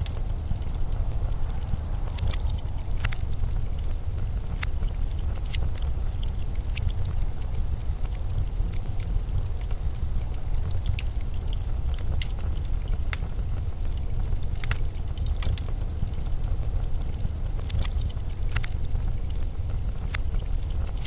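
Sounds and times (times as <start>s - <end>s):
blizzard wind rumbling: 0.0s - 21.0s
sharp crackles and ticks: 0.0s - 21.0s.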